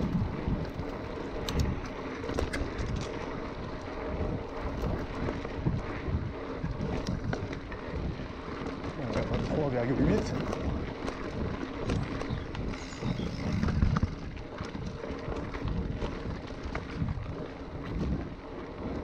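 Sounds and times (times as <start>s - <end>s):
bike clicking and rattling: 0.0s - 19.0s
bike tyres and frame rumbling: 0.0s - 19.0s
wind buffeting microphone: 0.0s - 19.0s.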